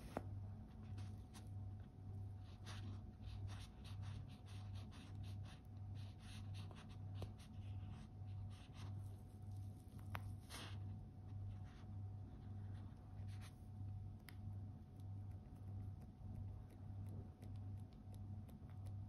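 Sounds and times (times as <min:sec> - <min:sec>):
fingers rubbing and rustling: 0:00.0 - 0:19.0.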